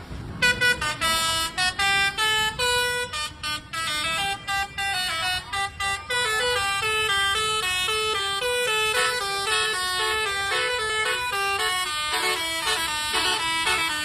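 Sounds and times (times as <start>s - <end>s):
multi-tone air horn tune: 0.4s - 14.0s.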